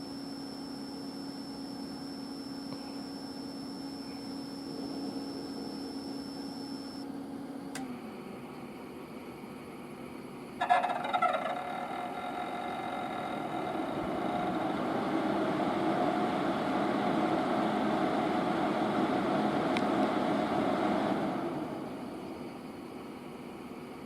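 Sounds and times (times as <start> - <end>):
cooling fan whirring: 0.0 - 24.0.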